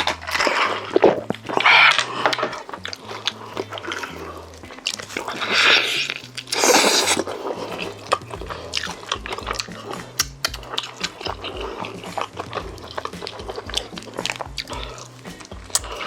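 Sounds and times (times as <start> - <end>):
chewing and biting food: 0.0 - 16.0.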